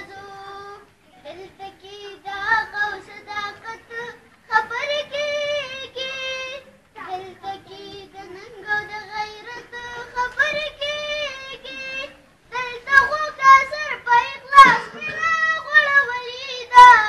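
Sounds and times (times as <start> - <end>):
boy singing unaccompanied: 0.0 - 17.0.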